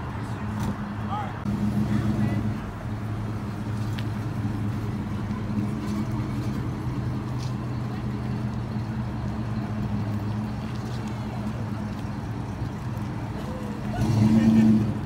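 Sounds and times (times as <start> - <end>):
car engine idling: 1.0 - 14.3.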